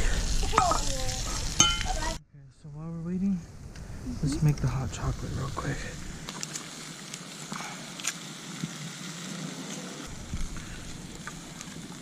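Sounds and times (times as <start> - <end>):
campfire crackling: 0.0 - 2.2, 3.0 - 12.0.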